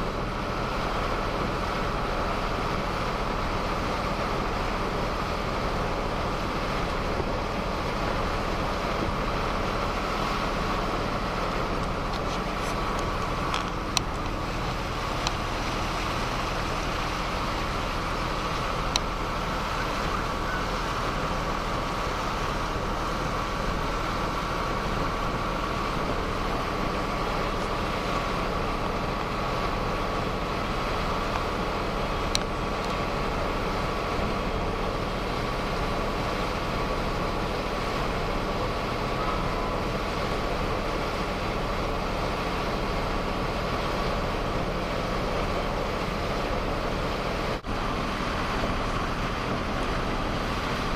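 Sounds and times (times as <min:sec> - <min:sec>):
boat engine droning: 0:00.0 - 0:50.9
thin steady whine: 0:00.0 - 0:50.9.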